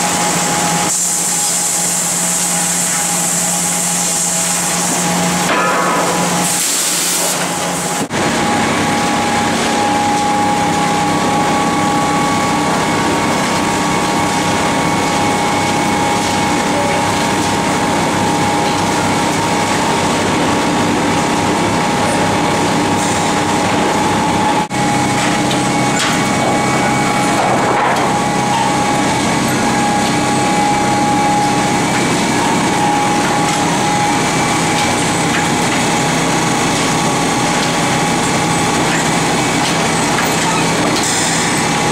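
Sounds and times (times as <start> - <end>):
sawmill machinery whining: 0.0 - 41.9.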